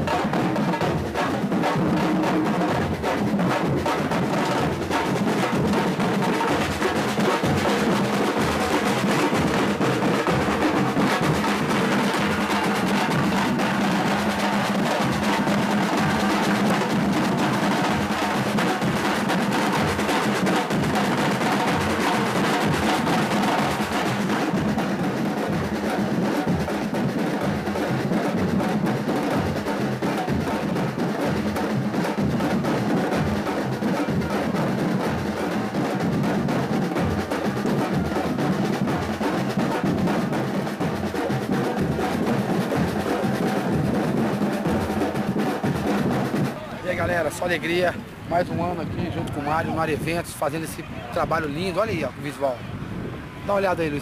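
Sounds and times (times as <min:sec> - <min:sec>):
drum group playing: 0:00.0 - 0:54.0.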